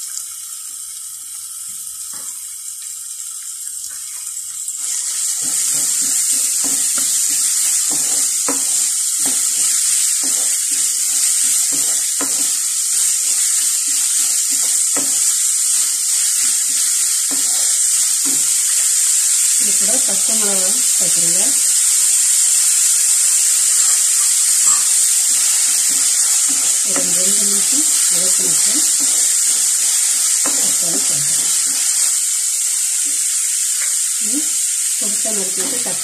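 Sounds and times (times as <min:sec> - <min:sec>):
vegetables sizzling in oil: 0:00.0 - 0:36.0.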